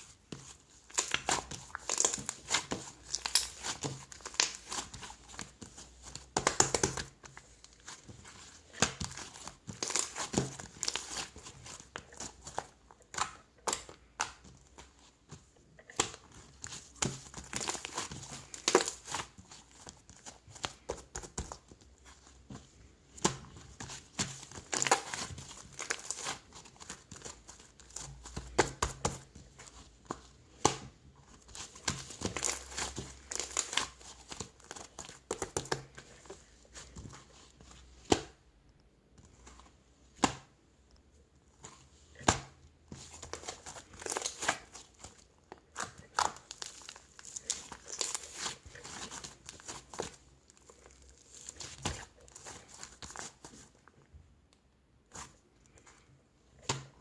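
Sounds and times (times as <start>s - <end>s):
crinkling handling noise: 0.0s - 38.3s, 41.0s - 57.0s.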